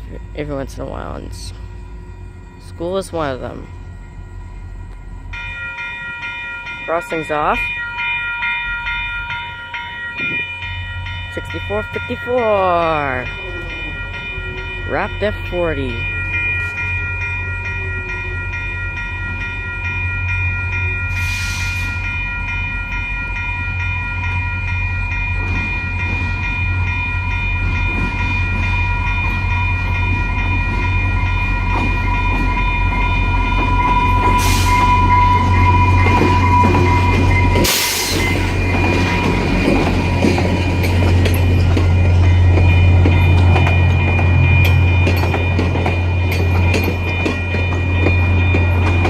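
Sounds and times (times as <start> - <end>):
crossing bell ringing: 0.0 - 49.0
diesel locomotive engine: 0.0 - 49.0.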